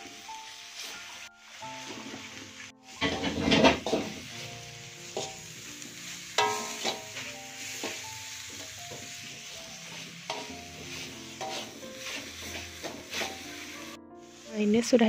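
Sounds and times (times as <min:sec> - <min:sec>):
background music: 0:00.0 - 0:15.0
cooking hiss: 0:00.0 - 0:15.0
spatula scraping metal wok: 0:01.8 - 0:14.5.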